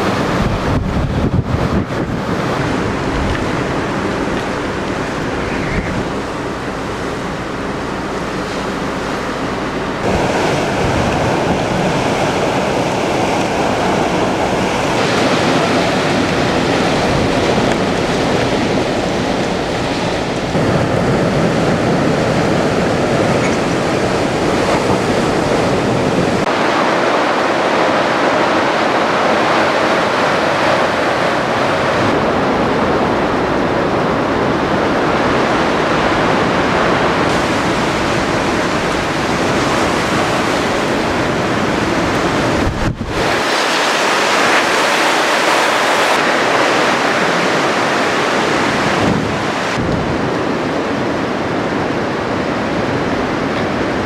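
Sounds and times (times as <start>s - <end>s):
wind rushing: 0.0s - 52.4s
driving rain: 0.0s - 54.0s
surf: 0.0s - 54.0s.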